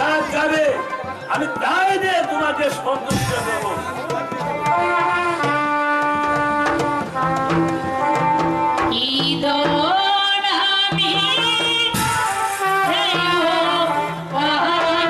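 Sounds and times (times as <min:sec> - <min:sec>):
tabla beats: 0:00.0 - 0:15.0.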